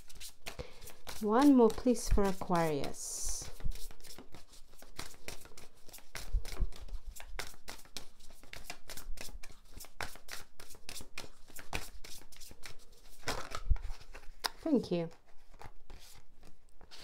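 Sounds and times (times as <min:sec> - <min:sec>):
cards being shuffled: 0:00.0 - 0:17.0.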